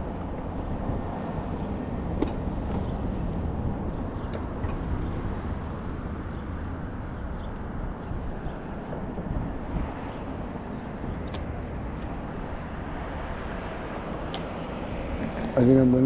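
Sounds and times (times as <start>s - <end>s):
outdoor road noise: 0.0s - 16.0s.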